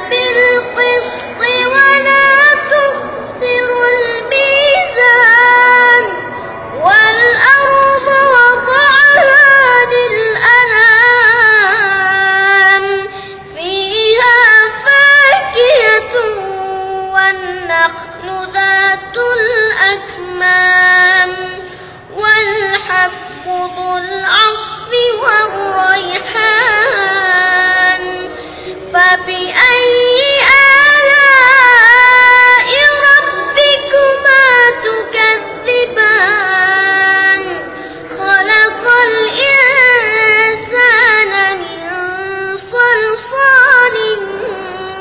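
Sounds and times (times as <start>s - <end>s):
boy chanting melodically: 0.0s - 45.0s.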